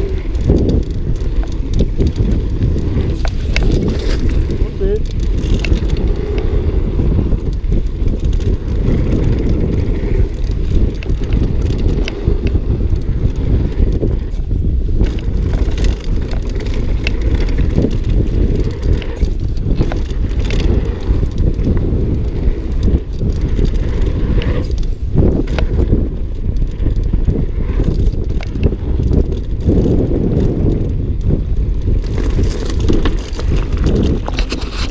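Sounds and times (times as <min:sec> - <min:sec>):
bike rattling over bumps: 0:00.0 - 0:34.9
bike tyres rumbling on trail: 0:00.0 - 0:34.9.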